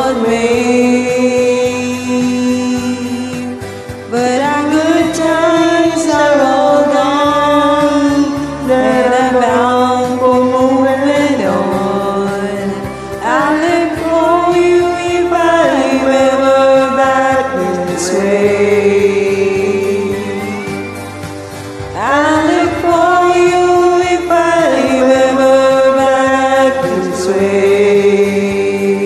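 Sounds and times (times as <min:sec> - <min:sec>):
backing track: 0:00.0 - 0:29.0
women singing country song: 0:00.0 - 0:29.0.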